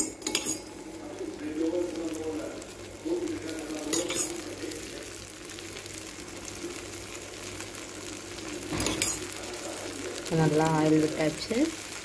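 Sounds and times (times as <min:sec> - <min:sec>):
batter sizzling in oil: 0:00.0 - 0:12.0.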